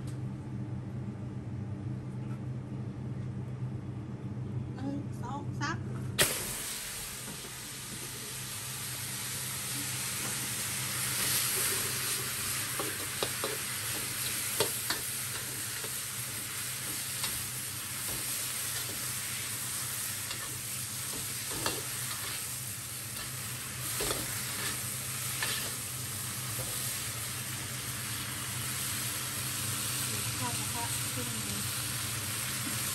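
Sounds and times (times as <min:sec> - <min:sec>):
vegetables sizzling in a wok: 0:06.2 - 0:32.9.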